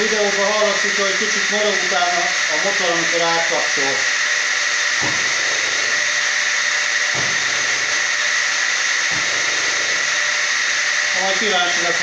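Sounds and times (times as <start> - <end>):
table saw whining: 0.0 - 12.0.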